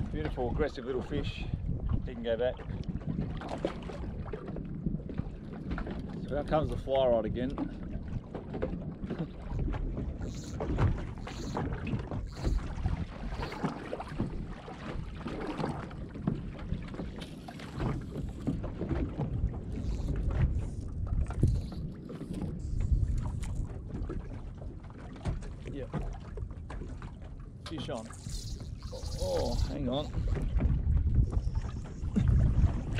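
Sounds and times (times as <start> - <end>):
wind buffeting microphone: 0.0 - 26.2, 27.7 - 32.9
water slapping against hull: 0.0 - 32.9.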